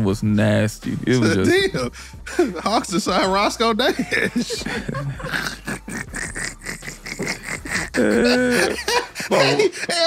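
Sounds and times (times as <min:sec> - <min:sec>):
men laughing: 0:01.1 - 0:10.0.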